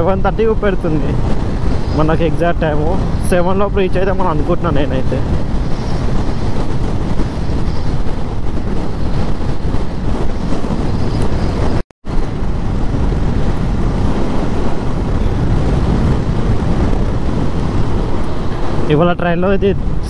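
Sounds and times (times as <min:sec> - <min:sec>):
motorcycle road and engine noise: 0:00.0 - 0:20.0
wind rushing over microphone: 0:00.0 - 0:20.0.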